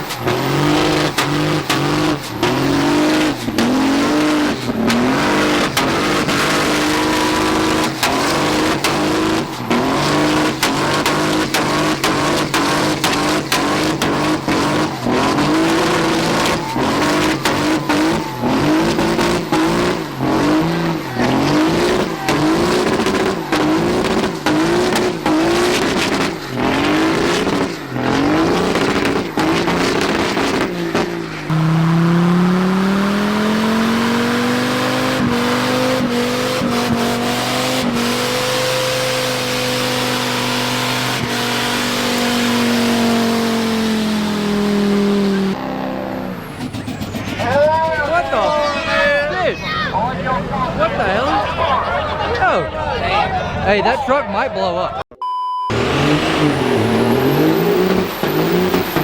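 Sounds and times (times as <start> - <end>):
truck engine revving: 0.0 - 54.2, 55.6 - 59.0.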